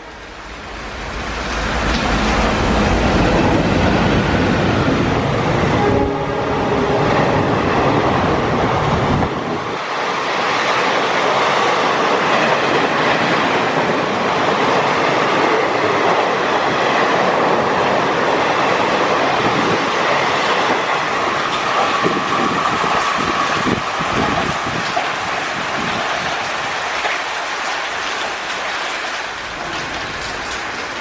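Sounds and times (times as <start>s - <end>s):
heavy rain: 0.0s - 31.0s
train rolling past: 0.0s - 31.0s.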